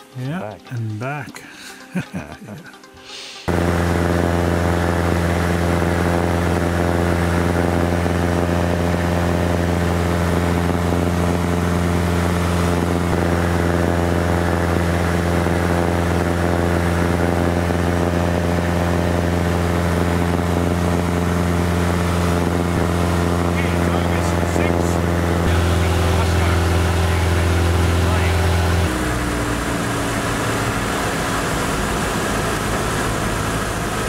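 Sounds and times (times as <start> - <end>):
airplane engine drone in cabin: 3.5 - 34.0.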